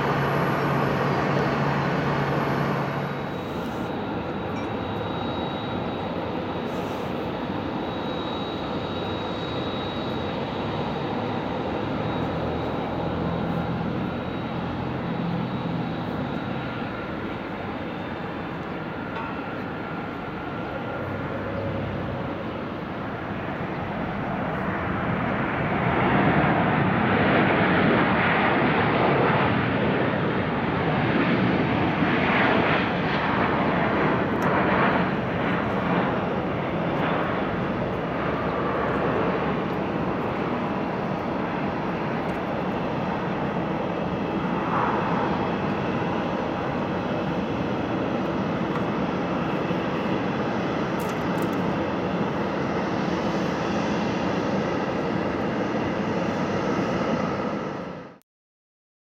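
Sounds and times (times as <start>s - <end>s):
jet engines roaring: 0.0s - 58.2s.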